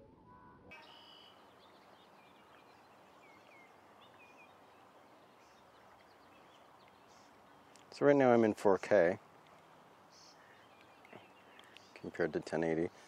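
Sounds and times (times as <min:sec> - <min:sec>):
small birds chirping: 0:00.7 - 0:13.0
steady low hiss: 0:00.7 - 0:13.0.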